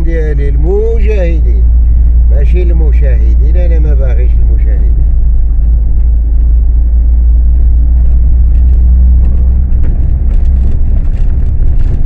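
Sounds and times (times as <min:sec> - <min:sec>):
car rumbling on the move: 0:00.0 - 0:12.0.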